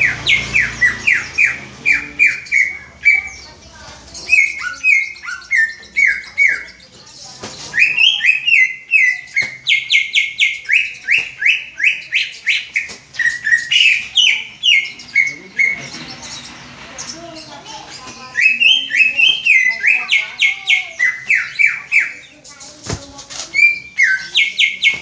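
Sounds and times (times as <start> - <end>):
bird singing whistled notes: 0.0 - 25.0.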